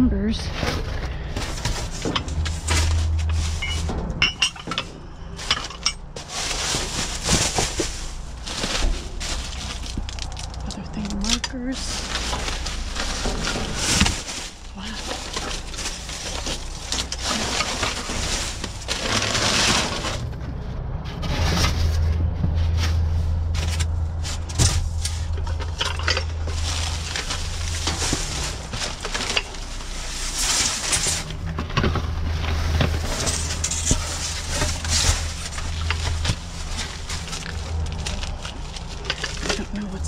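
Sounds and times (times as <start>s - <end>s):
plastic and paper packaging rustling: 0.0s - 40.0s
objects clicking and knocking: 0.6s - 20.6s, 23.6s - 40.0s.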